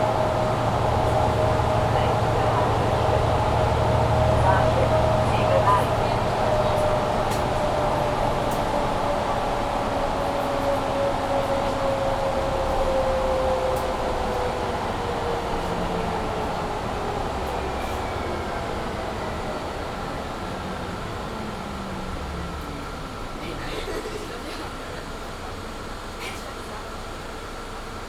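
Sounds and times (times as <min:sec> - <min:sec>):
bus drivetrain whine: 0:00.0 - 0:28.0.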